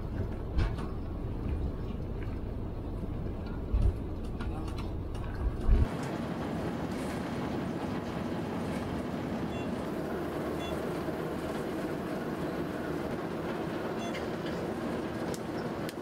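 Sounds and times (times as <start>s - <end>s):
locomotive running: 0.0s - 16.0s.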